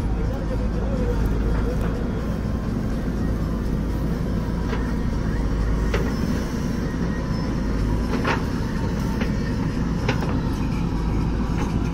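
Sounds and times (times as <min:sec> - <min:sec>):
diesel engines running: 0:00.0 - 0:11.9.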